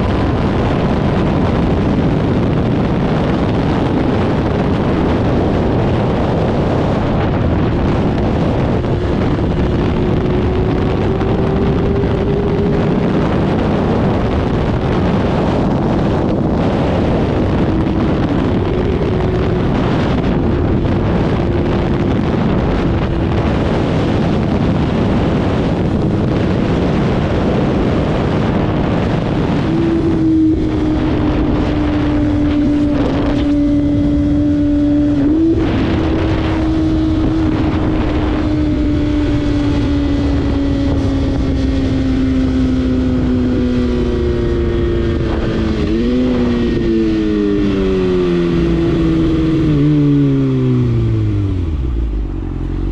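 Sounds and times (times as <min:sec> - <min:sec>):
motorcycle engine: 0:00.0 - 0:52.9
wind roaring on microphone: 0:00.0 - 0:52.9.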